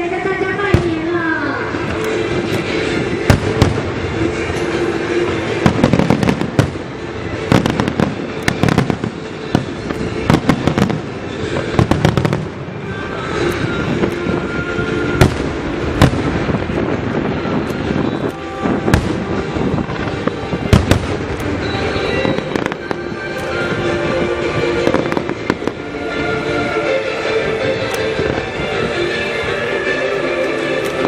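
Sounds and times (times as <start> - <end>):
fireworks bursting with sharp bangs: 0.5 - 28.8.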